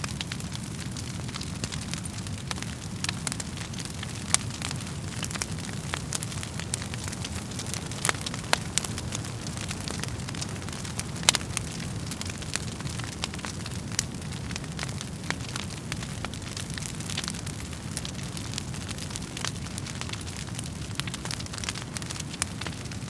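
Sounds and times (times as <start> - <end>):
low rumble of flames: 0.0 - 23.0
wood fire crackling: 0.0 - 23.0.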